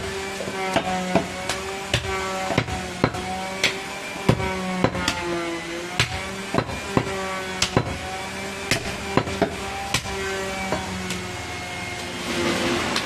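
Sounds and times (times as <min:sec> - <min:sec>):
cleaver chopping meat and bone: 0:00.0 - 0:11.3.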